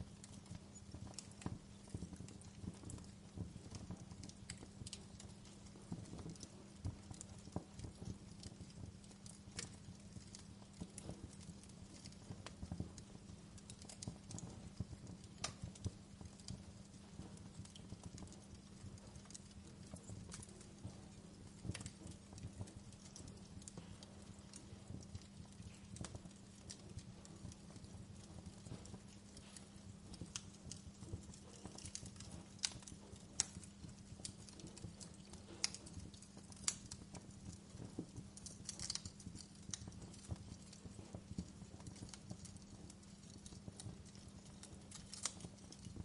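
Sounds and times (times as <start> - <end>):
low steady hum: 0.0 - 46.0
wood fire crackling: 0.0 - 46.0.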